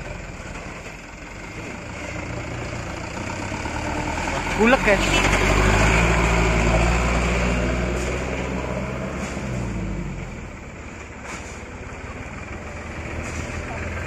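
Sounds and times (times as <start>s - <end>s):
truck diesel engine pulling away: 0.0s - 14.0s.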